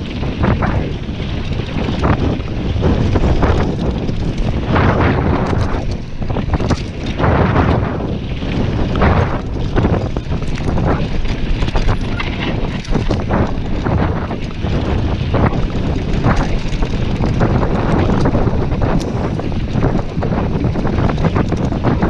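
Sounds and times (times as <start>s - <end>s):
bike rattles and knocks: 0.0s - 22.0s
tyres rumbling on dirt: 0.0s - 22.0s
wind buffeting microphone: 0.0s - 22.0s.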